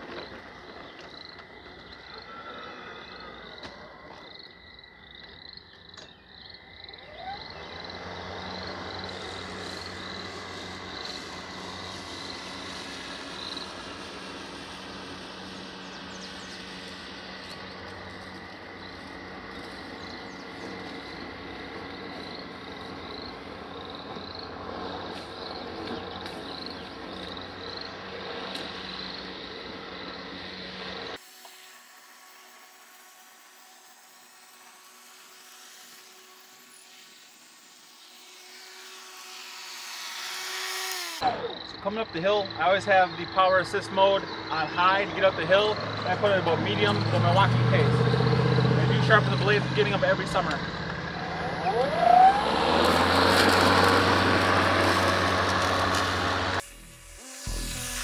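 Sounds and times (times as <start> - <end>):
electric mower humming: 0.0 - 58.0.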